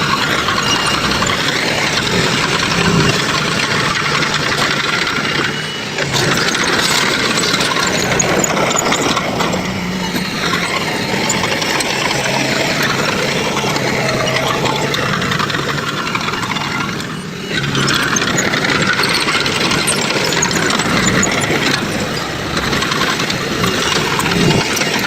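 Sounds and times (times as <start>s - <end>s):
clanking and rattling: 0.0s - 25.0s
heavy machine engine running: 0.0s - 25.0s.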